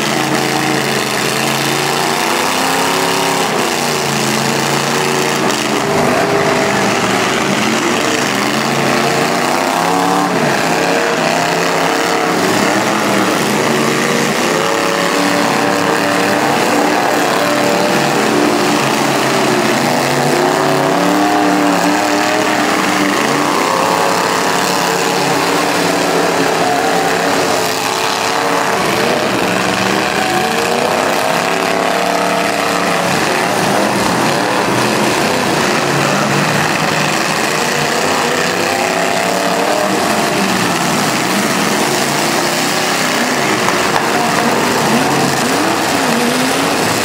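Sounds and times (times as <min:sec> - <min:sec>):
truck engines revving: 0:00.0 - 0:47.0.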